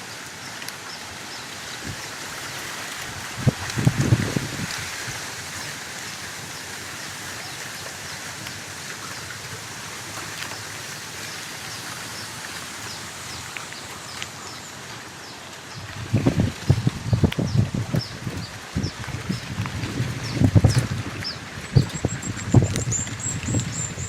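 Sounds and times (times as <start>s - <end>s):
wind through leaves: 0.0s - 24.0s.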